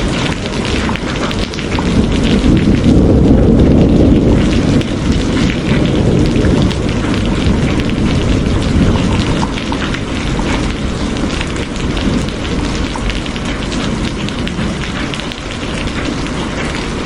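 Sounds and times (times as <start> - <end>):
heavy rain with ticking drops: 0.0 - 17.0
low thunder rumble: 0.0 - 17.0.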